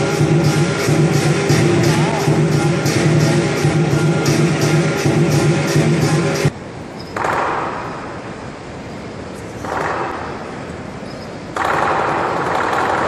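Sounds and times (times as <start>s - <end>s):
crowd noise in echoing hall: 0.0s - 13.0s.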